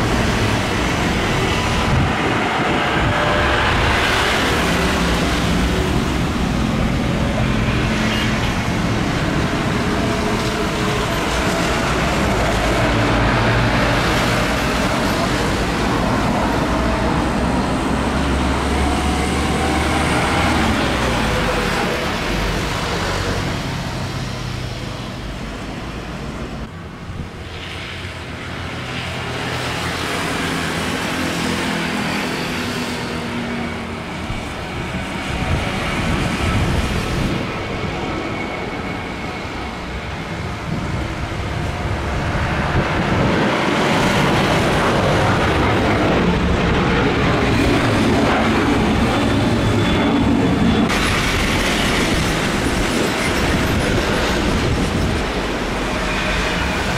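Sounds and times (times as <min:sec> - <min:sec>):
jet engines roaring: 0:00.0 - 0:56.9.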